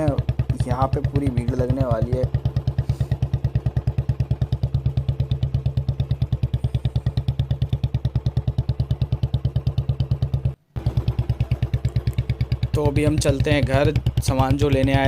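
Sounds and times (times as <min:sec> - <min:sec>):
motorcycle engine thumping: 0:00.0 - 0:15.0.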